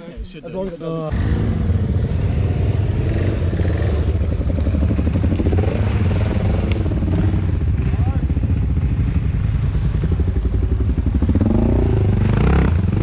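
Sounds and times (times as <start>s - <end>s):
dirt bike engine revving: 1.1s - 13.0s.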